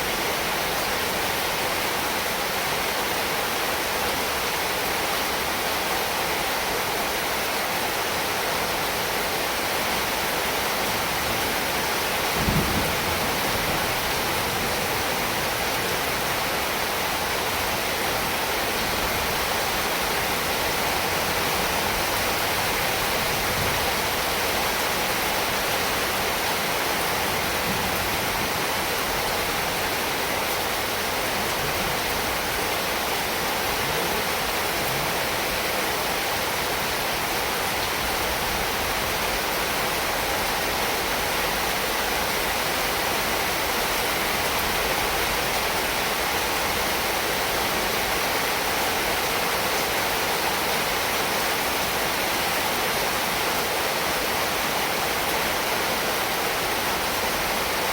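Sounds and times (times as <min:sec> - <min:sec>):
heavy rain: 0:00.0 - 0:57.9.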